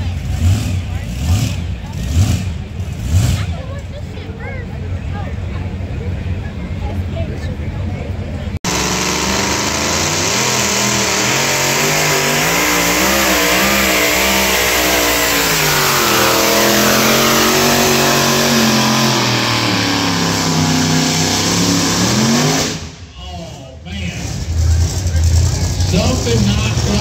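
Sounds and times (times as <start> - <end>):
truck engine at full throttle: 0.0 - 27.0.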